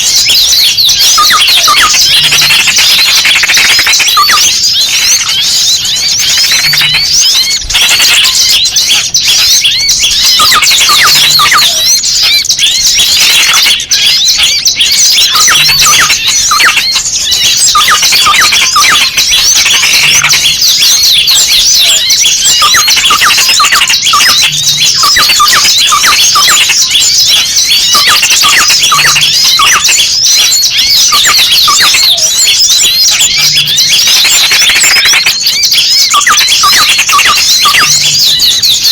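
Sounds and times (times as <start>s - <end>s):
small birds chirping and squealing: 0.0s - 38.9s.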